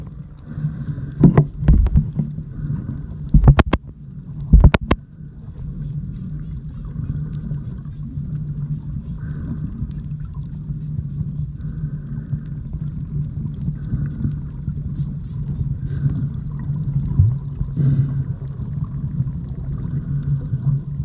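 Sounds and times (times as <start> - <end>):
dolphins clicking underwater: 0.0 - 21.0
low hum: 0.0 - 21.0.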